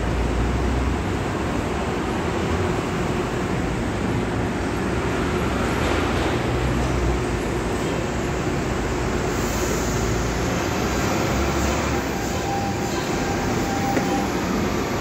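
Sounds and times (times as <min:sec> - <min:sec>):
electric train humming and rumbling: 0:00.0 - 0:15.0.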